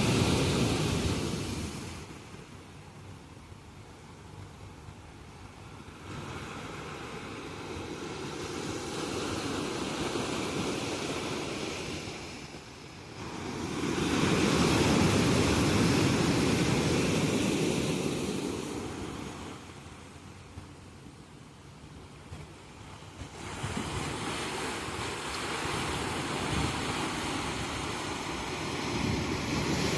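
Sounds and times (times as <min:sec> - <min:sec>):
sea waves breaking on shore: 0:00.0 - 0:29.9.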